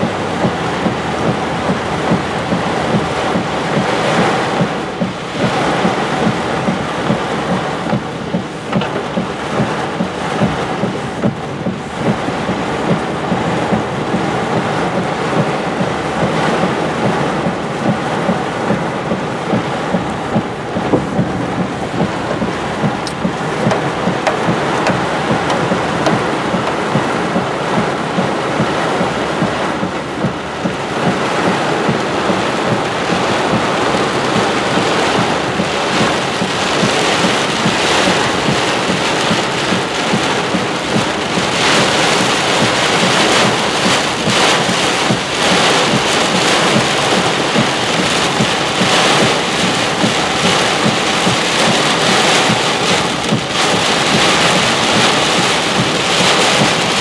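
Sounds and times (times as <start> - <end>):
heavy rain on vehicle roof: 0.0 - 57.0.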